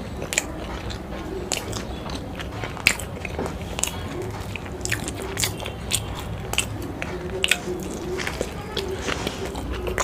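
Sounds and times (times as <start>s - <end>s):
wet chewing mouth clicks: 0.0s - 10.0s.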